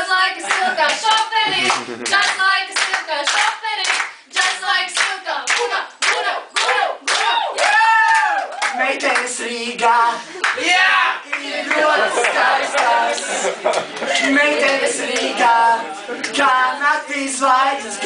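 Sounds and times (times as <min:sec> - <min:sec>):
people clapping in rhythm: 0:00.0 - 0:17.3
voices singing and chanting: 0:00.0 - 0:18.0.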